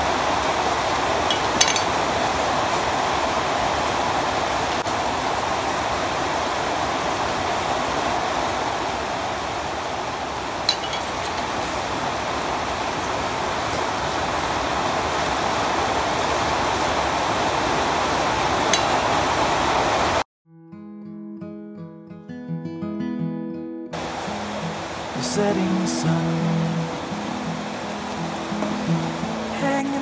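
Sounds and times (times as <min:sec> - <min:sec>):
rushing water: 0:00.0 - 0:20.2, 0:24.0 - 0:30.0.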